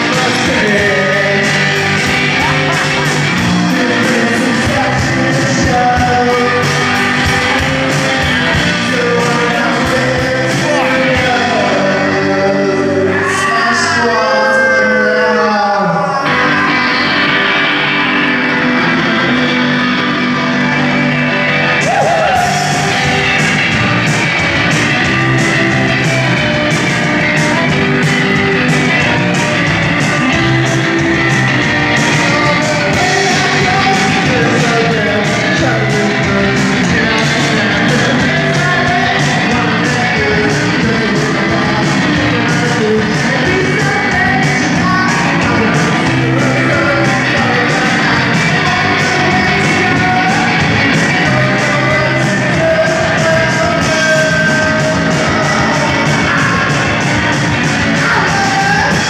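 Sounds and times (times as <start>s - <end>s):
drum kit: 0.0s - 59.0s
electric guitar: 0.0s - 59.0s
person singing: 0.0s - 59.0s.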